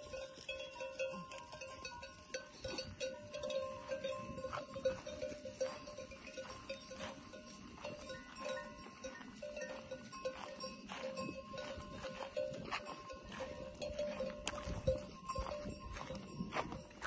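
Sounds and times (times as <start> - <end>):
sheep bells clanking: 0.0 - 17.0.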